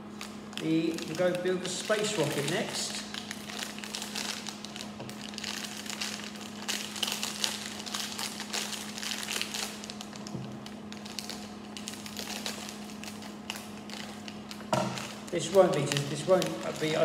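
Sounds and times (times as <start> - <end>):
plastic bag crinkling: 0.0 - 17.0
steady low hum: 0.0 - 17.0.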